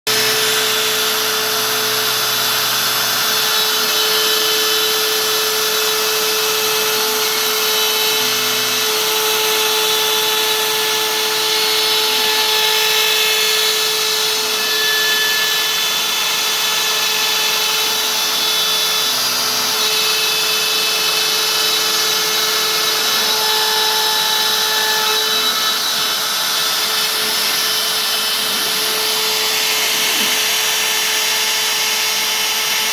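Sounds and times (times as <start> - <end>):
router spindle whine: 0.1 - 32.9.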